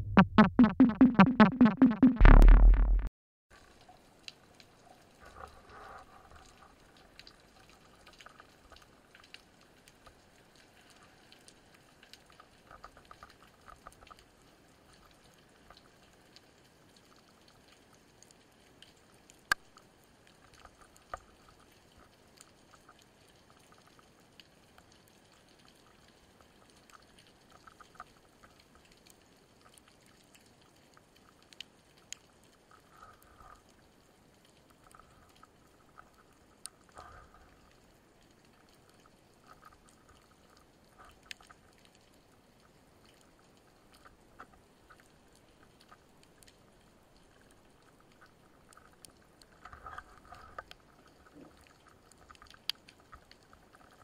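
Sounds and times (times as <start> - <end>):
small clicks and crackles: 3.5 - 54.0.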